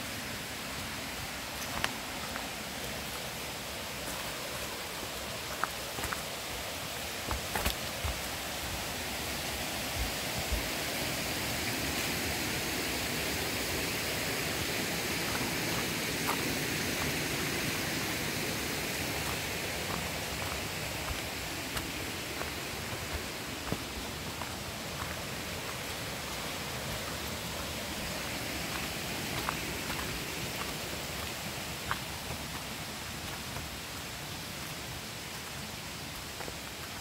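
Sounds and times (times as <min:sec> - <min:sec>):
rainforest ambience hiss: 0:00.0 - 0:37.0
soft footsteps on trail: 0:00.2 - 0:37.0.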